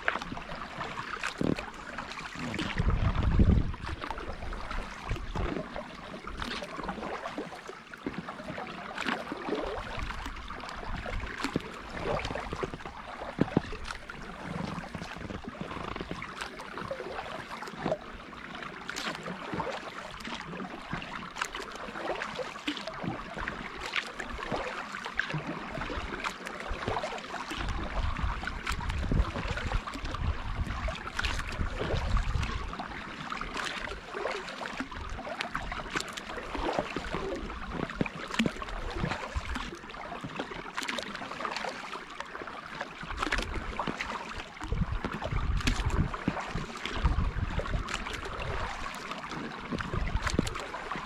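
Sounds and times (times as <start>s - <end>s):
kayak paddle strokes in water: 0.0s - 51.0s
water drips and splashes: 0.0s - 51.0s.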